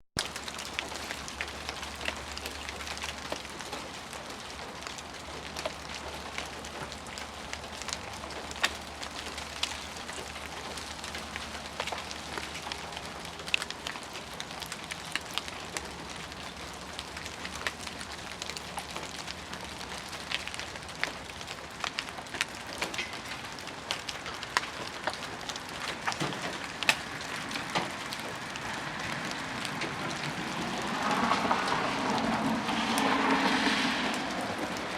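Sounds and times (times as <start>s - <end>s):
ice pattering on ground: 0.2s - 34.9s.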